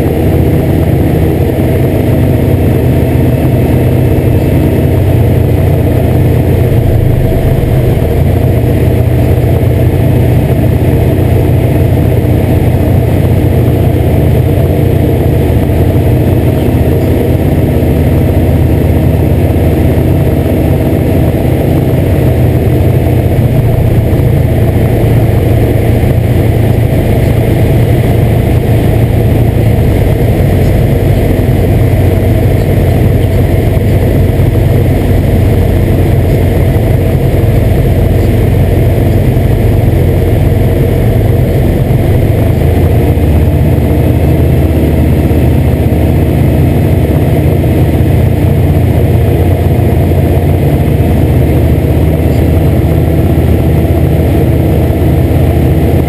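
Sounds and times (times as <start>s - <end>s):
light aircraft engine and propeller: 0.0s - 56.0s.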